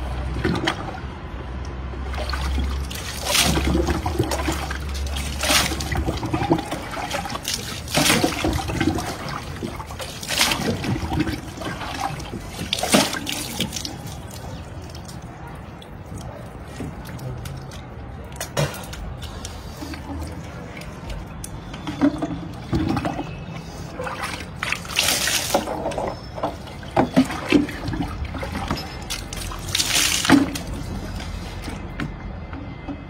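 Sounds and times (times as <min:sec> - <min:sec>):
water trickling and dripping: 0:01.6 - 0:31.8
water splashing on body: 0:02.0 - 0:31.9.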